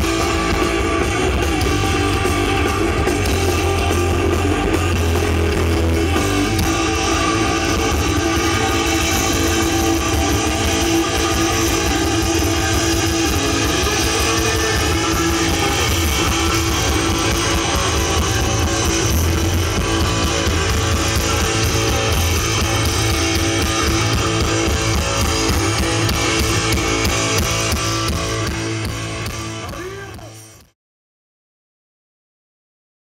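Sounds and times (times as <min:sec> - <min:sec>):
rock music with electric guitar: 0:00.0 - 0:30.8.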